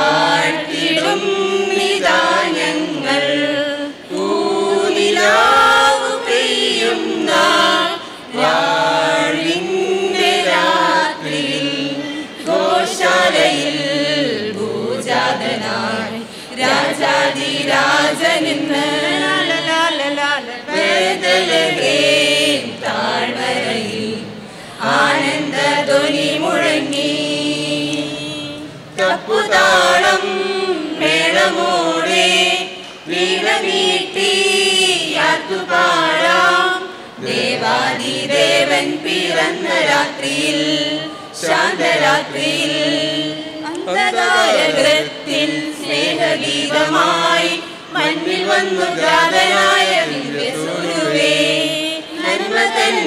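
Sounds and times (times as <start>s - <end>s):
mixed choir singing a carol: 0.0s - 53.0s.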